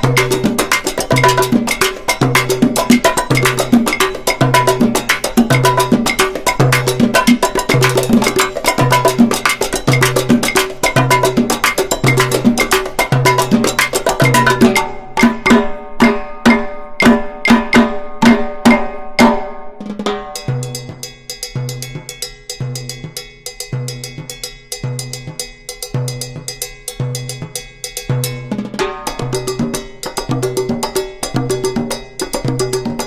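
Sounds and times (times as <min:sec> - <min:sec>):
drum and percussion beat: 0:00.0 - 0:33.0.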